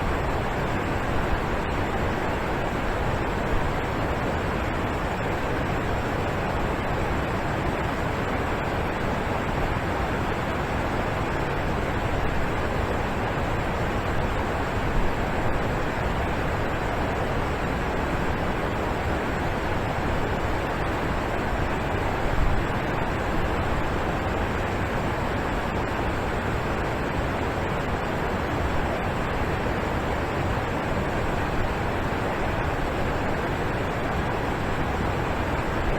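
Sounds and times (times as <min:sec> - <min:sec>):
waterfall rushing and splashing: 0:00.0 - 0:35.9.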